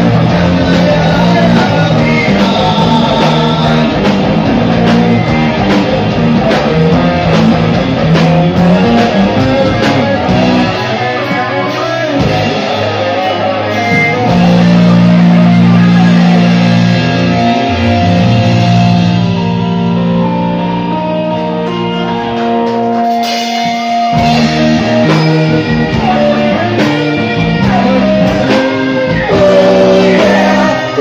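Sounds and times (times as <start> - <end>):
drum kit: 0.0 - 31.0
live rock band playing: 0.0 - 31.0.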